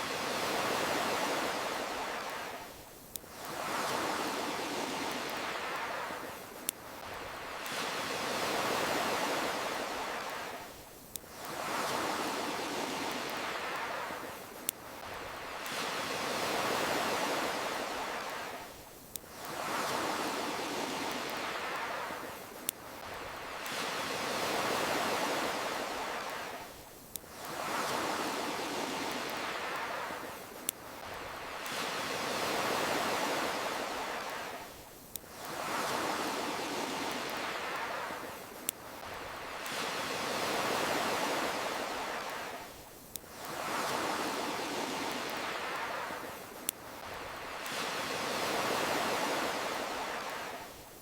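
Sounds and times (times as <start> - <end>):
campfire crackles: 0.0 - 51.0
ocean waves washing in: 0.0 - 51.0.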